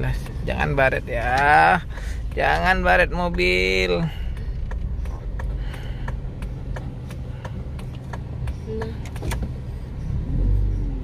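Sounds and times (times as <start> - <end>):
hazard light relay ticking: 0.0 - 9.2
engine and road rumble: 0.0 - 11.0.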